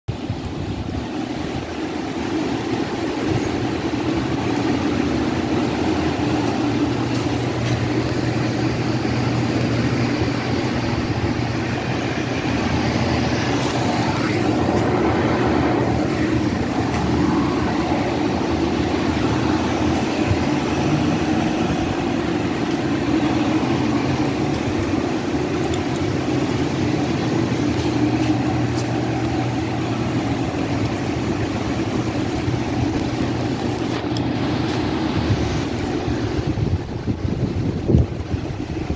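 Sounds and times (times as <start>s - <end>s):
diesel engine idling: 0.1s - 38.9s.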